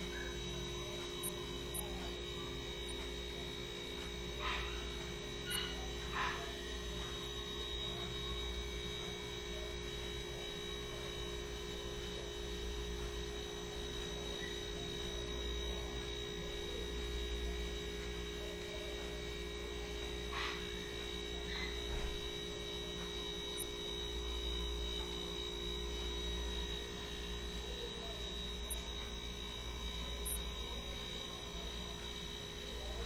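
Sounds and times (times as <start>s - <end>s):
electrical hum: 0.0s - 33.0s
faint high whine: 0.0s - 33.0s.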